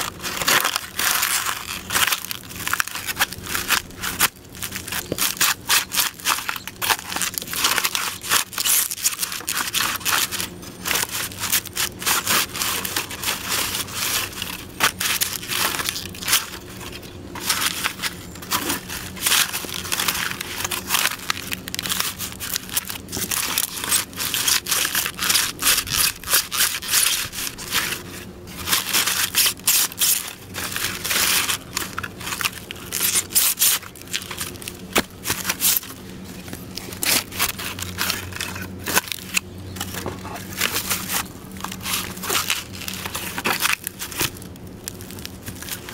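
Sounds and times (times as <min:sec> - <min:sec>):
boots crushing egg carton: 0:00.0 - 0:45.9.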